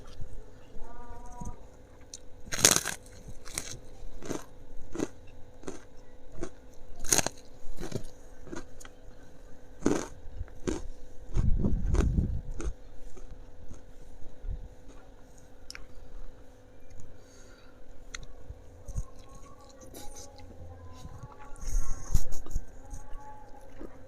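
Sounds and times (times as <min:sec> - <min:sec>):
crunchy chewing of food: 0:01.1 - 0:24.0.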